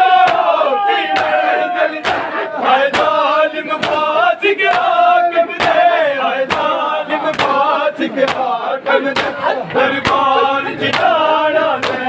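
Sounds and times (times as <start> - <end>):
men chanting together: 0.0 - 12.0
hands slapping chests in unison: 0.1 - 12.0.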